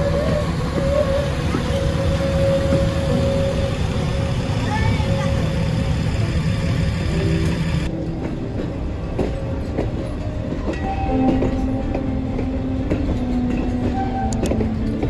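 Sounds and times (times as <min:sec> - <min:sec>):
train rumbling on rails: 0:00.0 - 0:15.0
wheels clicking over rail joints: 0:00.0 - 0:15.0.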